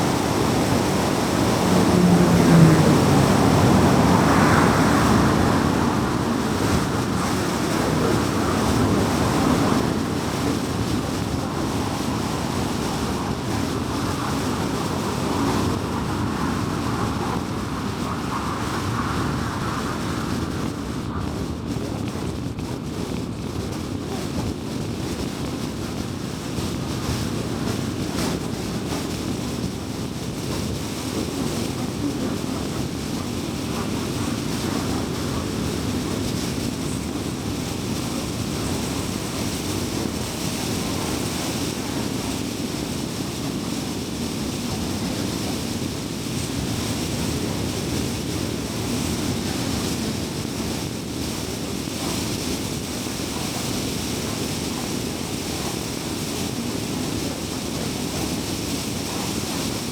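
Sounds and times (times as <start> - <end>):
low engine hum: 0.0 - 59.9
tyre noise on highway: 0.0 - 59.9.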